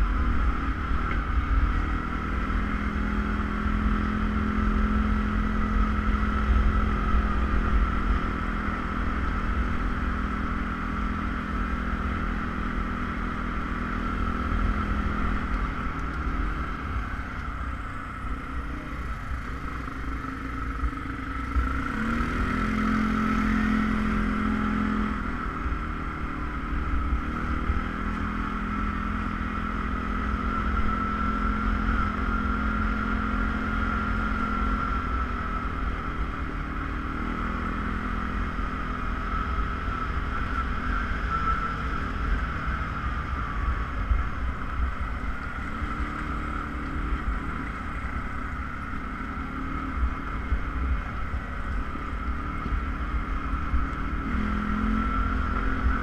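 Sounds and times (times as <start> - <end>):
atv engine running: 0.0 - 56.0
high whine: 0.0 - 56.0.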